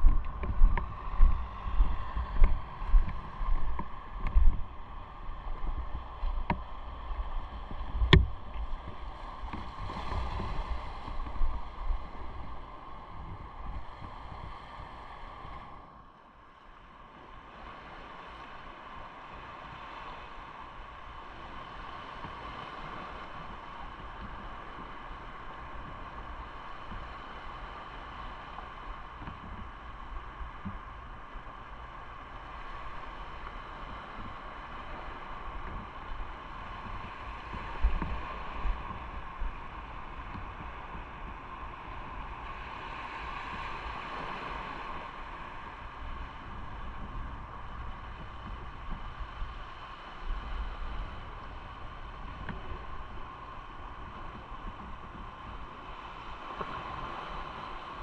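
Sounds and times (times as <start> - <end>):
wind on microphone: 0.0 - 16.0, 16.7 - 58.0.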